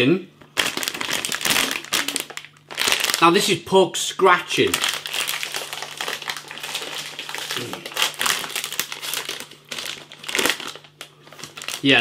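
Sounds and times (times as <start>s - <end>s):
plastic snack packet crackling: 0.6s - 3.5s, 4.4s - 12.0s.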